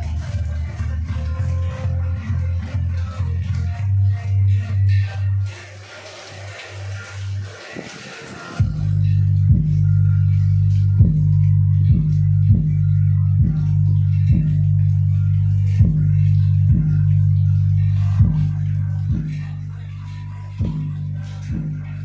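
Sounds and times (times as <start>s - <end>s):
deep bass music from subwoofer: 0.0s - 5.7s, 8.6s - 22.0s.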